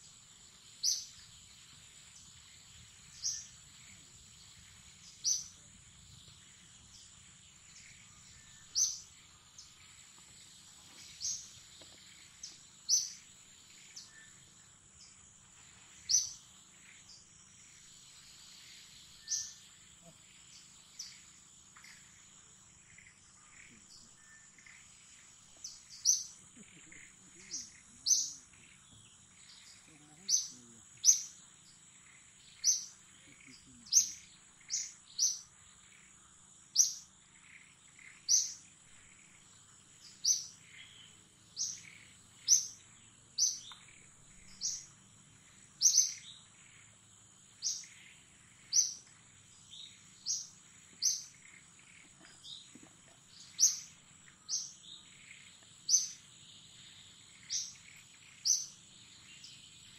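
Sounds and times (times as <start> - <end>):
bird chirping: 0.0 - 59.9
high-pitched insect drone: 0.0 - 59.9.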